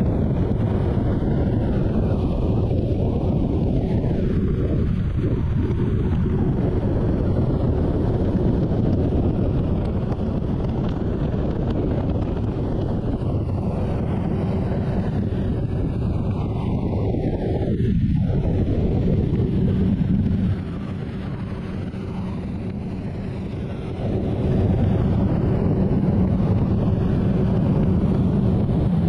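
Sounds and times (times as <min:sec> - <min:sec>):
motorcycle engine at highway speed: 0:00.0 - 0:29.0
wind rushing over microphone: 0:00.0 - 0:29.0.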